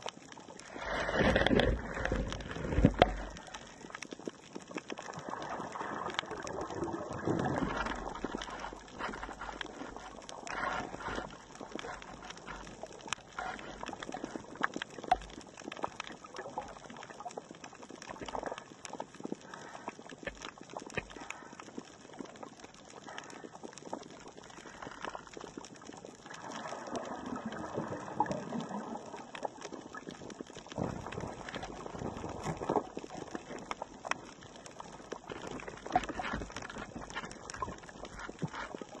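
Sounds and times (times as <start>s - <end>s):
crackle of sharp clicks: 0.0s - 27.5s, 28.1s - 39.0s.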